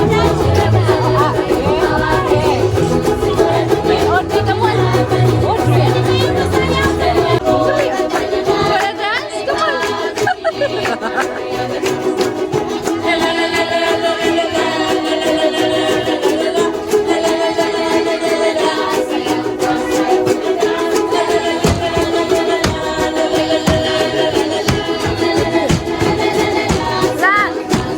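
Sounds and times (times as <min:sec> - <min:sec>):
song with strummed strings and beat: 0:00.0 - 0:27.9.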